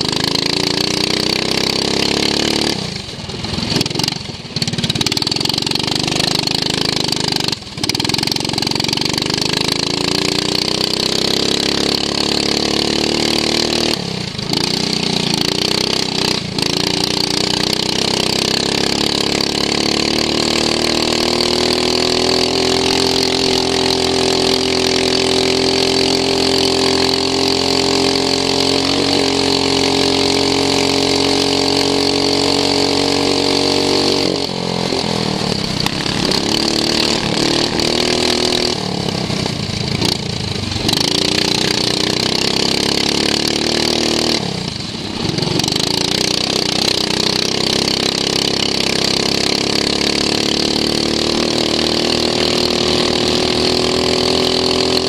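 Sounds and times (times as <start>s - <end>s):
racing lawn mower engine revving: 0.0s - 55.0s.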